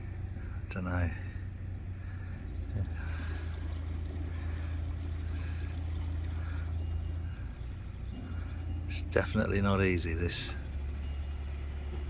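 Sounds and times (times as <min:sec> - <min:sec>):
boat diesel engine humming: 0:00.0 - 0:12.0.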